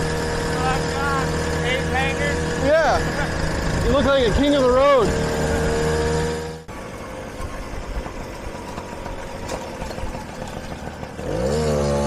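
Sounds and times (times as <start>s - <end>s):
louder steady engine note: 0.0s - 12.0s
moped engines buzzing: 0.0s - 12.0s.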